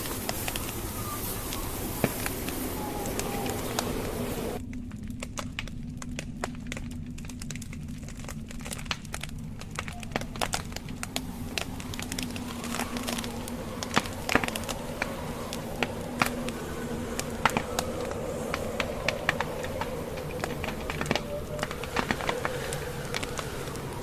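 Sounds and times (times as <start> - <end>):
faint drone: 0.0 - 24.0
fire crackling and popping: 0.0 - 24.0
wind rumbling: 0.0 - 24.0.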